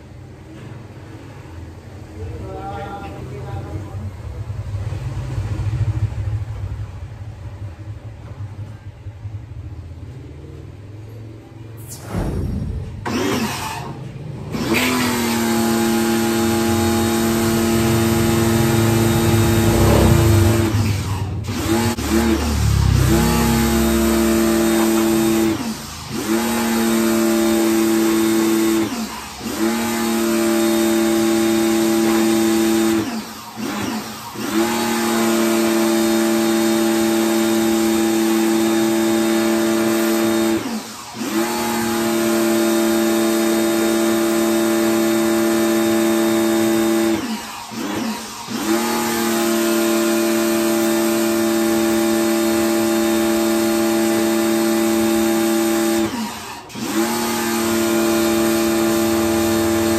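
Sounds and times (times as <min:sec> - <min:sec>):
pressure washer motor hum: 0:11.8 - 0:59.9.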